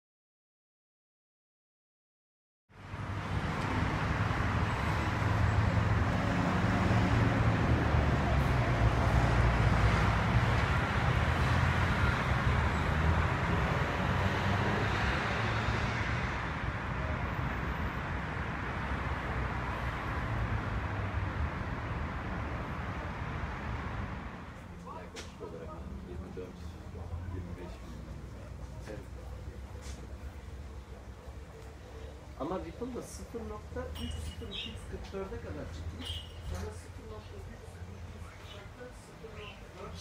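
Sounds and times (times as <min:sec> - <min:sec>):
rumble of passing vehicles: 0:02.7 - 0:40.0
road noise hiss: 0:02.8 - 0:40.0.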